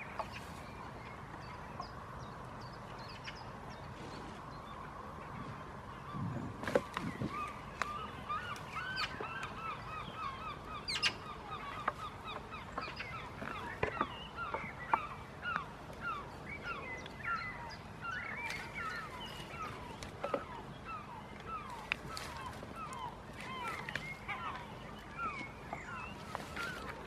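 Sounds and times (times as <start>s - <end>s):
flock of birds chirping and honking: 2.8s - 27.0s.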